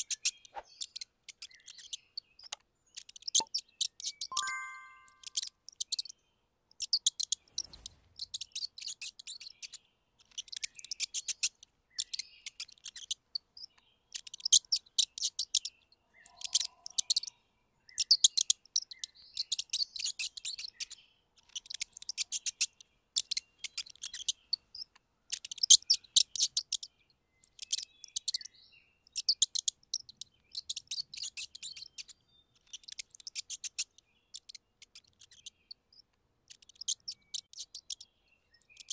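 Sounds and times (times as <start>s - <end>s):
mice squeaking: 0.0s - 6.1s, 6.8s - 17.3s, 17.9s - 38.9s.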